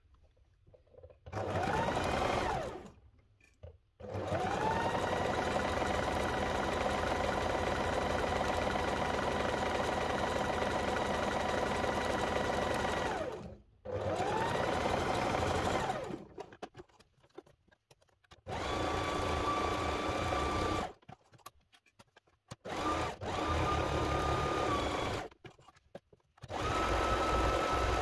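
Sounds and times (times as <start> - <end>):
sewing machine stitching: 1.0 - 3.0, 4.0 - 28.0.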